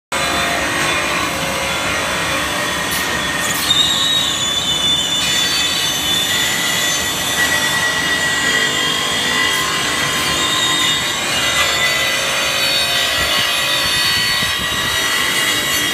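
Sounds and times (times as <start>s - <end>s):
high steady whines: 0.1s - 15.9s.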